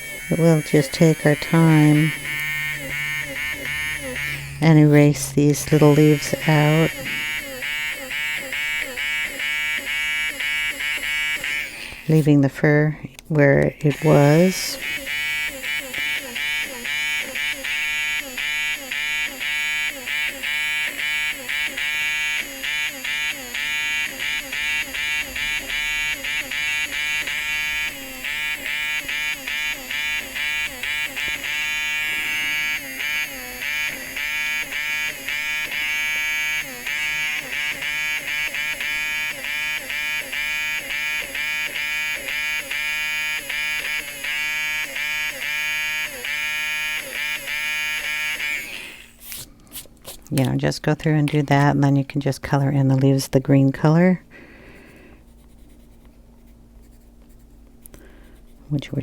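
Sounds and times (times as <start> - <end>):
electric eraser buzzing on paper: 0.0 - 49.5, 54.3 - 58.8.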